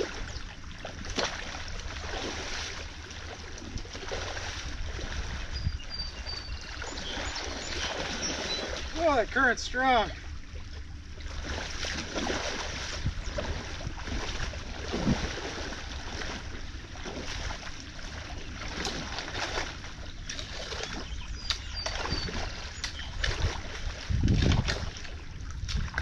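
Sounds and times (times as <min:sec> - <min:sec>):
creek water flowing and splashing: 0:00.0 - 0:26.0.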